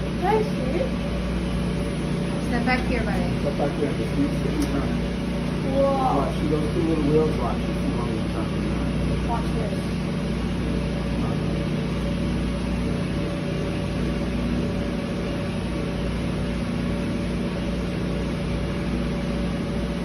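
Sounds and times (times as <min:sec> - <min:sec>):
elevator machinery humming: 0:00.0 - 0:20.0.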